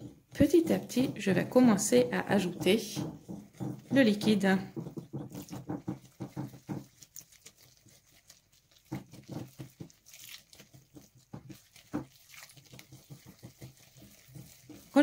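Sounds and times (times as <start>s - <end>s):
whisk scraping and tapping a bowl: 0.0s - 15.0s.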